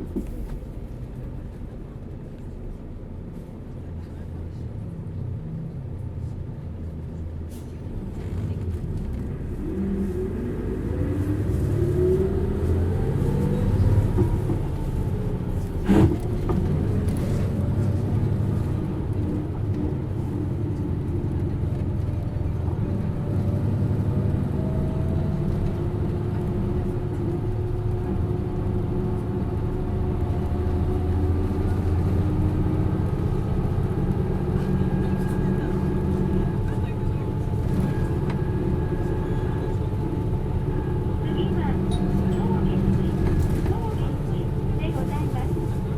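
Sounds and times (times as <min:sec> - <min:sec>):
bus engine with rising whine: 0:00.0 - 0:45.9.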